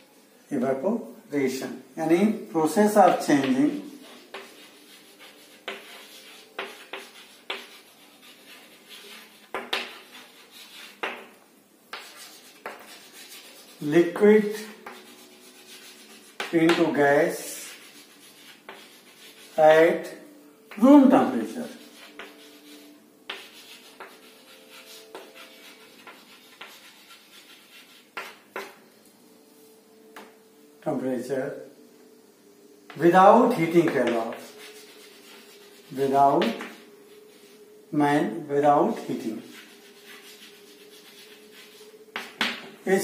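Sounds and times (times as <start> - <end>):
chalk writing on chalkboard: 2.8 - 29.0, 32.8 - 37.9, 38.9 - 43.0.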